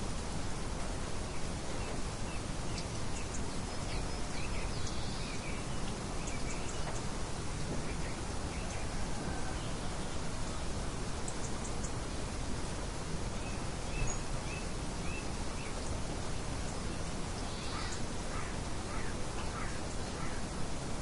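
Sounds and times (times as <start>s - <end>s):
light wind hissing: 0.0s - 21.0s
small birds chirping: 1.2s - 12.5s, 13.3s - 20.6s.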